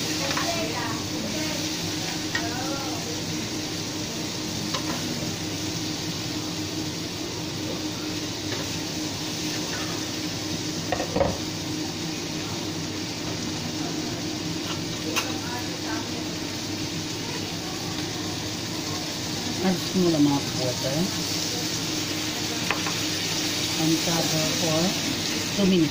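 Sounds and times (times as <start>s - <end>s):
okra sizzling in oil: 0.0s - 25.9s.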